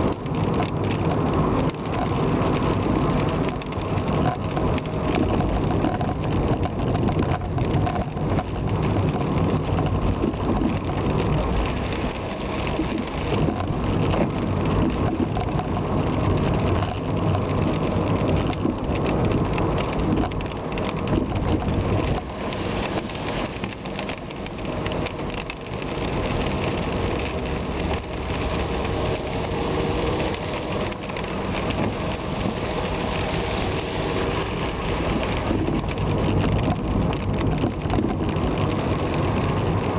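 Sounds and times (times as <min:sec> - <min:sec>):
steady rain hitting a surface: 0:00.0 - 0:39.9.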